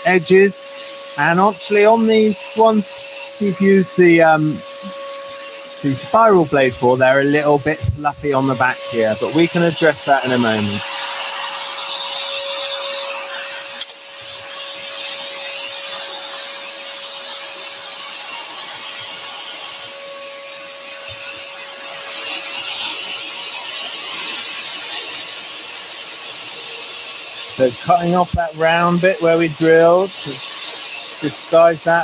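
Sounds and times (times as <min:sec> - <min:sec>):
scroll saw cutting wood: 0:00.0 - 0:32.0.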